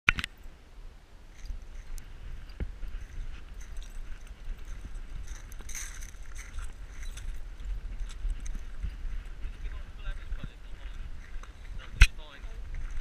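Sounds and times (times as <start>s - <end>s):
steady low rumble: 0.3s - 13.0s
rustling of dog lead: 1.3s - 13.0s.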